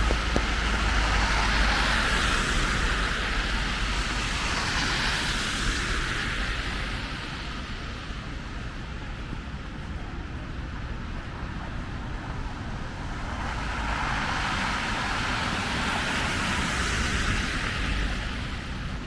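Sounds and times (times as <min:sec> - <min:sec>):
tyre hiss of passing vehicle: 0:00.0 - 0:08.0, 0:11.3 - 0:19.0
traffic rumble: 0:00.0 - 0:19.0.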